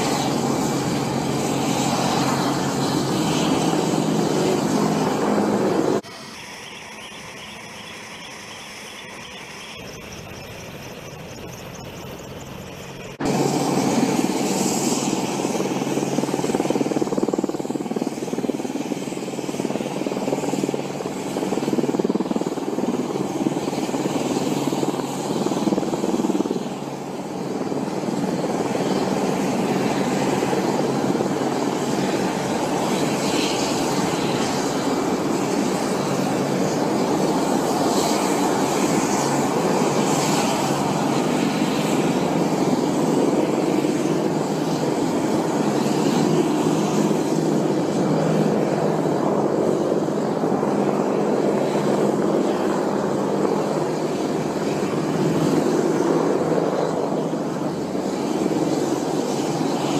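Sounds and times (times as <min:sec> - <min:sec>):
helicopter rotors and turbines: 0:00.0 - 0:59.9.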